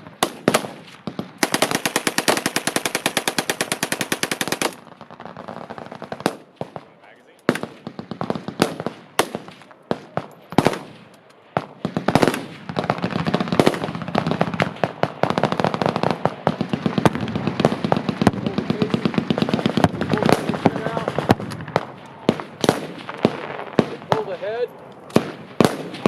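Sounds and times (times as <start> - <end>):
machine-gun fire: 0.0 - 6.9, 7.5 - 24.5, 25.1 - 26.0.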